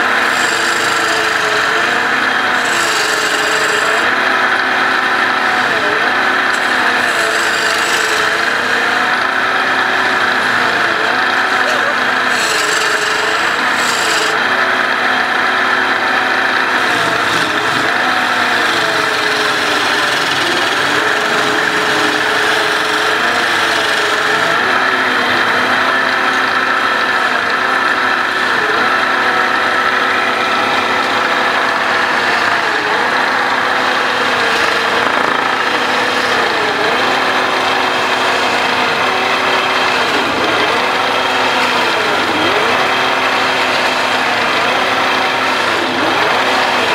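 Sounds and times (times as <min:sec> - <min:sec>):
lathe motor hum: 0:00.0 - 0:46.9
lathe tool scraping wood: 0:00.0 - 0:46.9.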